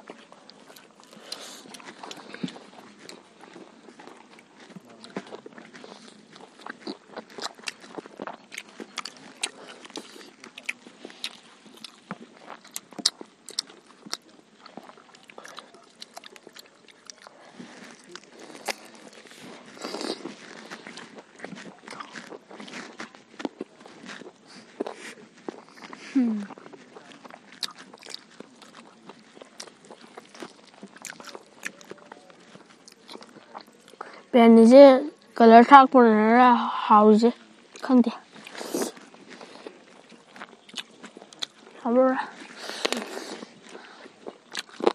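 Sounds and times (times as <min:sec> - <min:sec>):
close chewing and mouth clicks: 0:00.0 - 0:36.2, 0:37.3 - 0:44.9.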